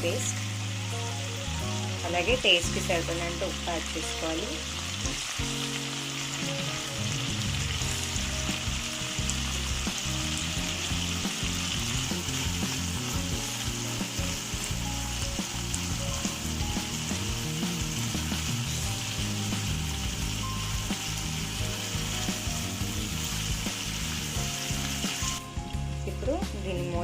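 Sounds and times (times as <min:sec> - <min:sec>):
chicken frying in oil: 0:00.0 - 0:26.7.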